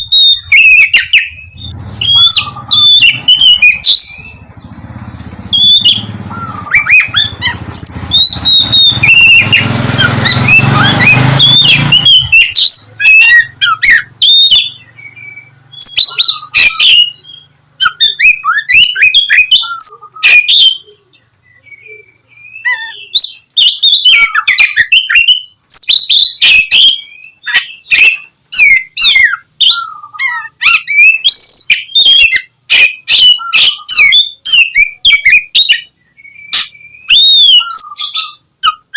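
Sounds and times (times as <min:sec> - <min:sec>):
bird singing whistles and chirps: 0:00.0 - 0:04.7, 0:05.5 - 0:38.9.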